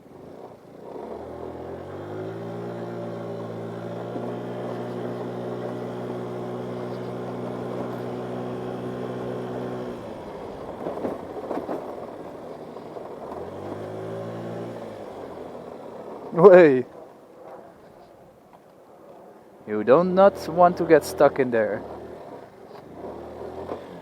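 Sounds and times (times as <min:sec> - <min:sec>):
scooter rattling over rough trail: 0:00.0 - 0:24.0
scooter engine revving: 0:00.1 - 0:17.0, 0:19.7 - 0:24.0.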